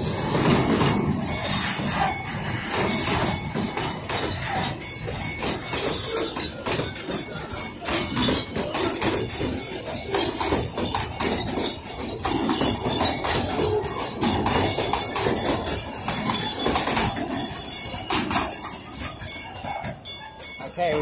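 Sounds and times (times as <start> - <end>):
train wheels clattering over rail joints: 0.0 - 21.0.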